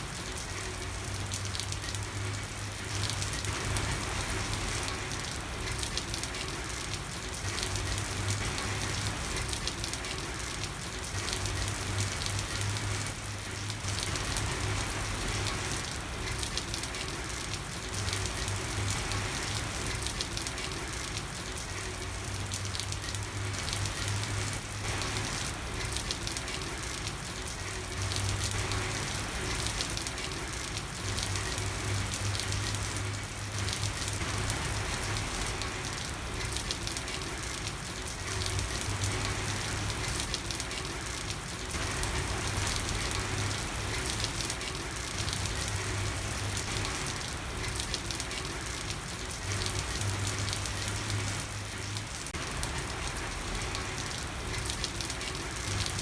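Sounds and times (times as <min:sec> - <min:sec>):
rain pattering on a street: 0:00.0 - 0:56.0.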